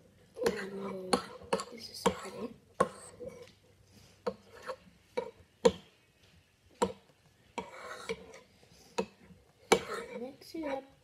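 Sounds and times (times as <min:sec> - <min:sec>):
stirring thick slime: 0:00.0 - 0:10.8.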